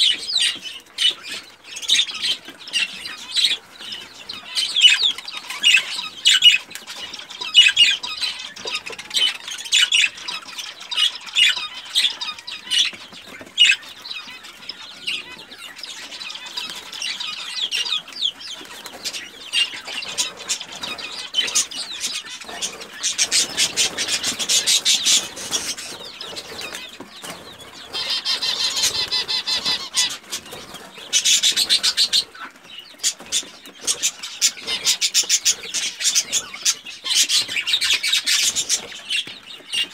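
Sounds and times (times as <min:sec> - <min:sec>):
chicks peeping: 0:00.0 - 0:39.9
chicks scratching and pecking: 0:00.0 - 0:39.9.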